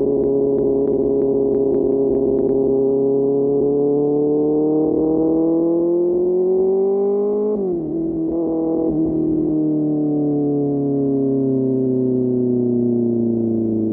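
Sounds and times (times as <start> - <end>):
motorcycle engine accelerating: 0.0 - 13.9.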